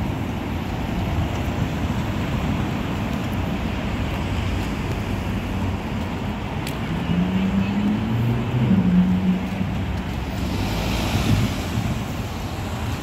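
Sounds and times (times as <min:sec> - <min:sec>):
road traffic passing: 0:00.0 - 0:13.0
wind rumbling on microphone: 0:00.0 - 0:13.0.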